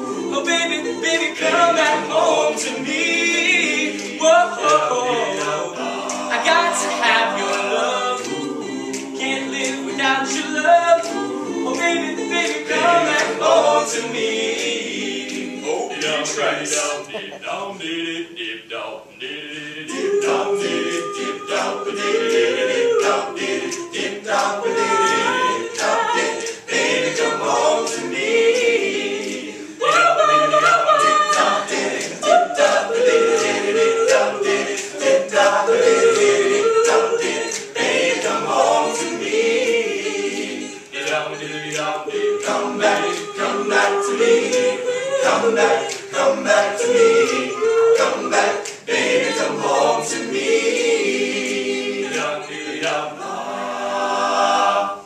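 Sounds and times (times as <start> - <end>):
male a cappella group singing: 0.0 - 55.0.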